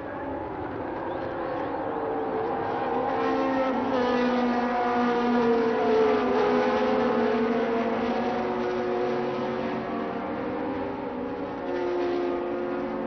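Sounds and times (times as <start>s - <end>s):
racing car engines at high revs: 0.4s - 13.0s.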